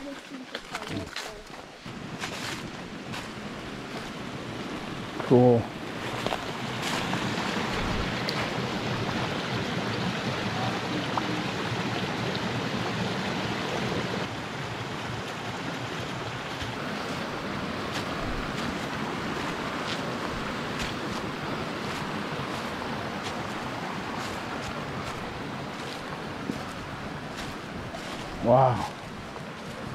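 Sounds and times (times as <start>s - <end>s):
creek water rushing over rocks: 0.0s - 29.9s.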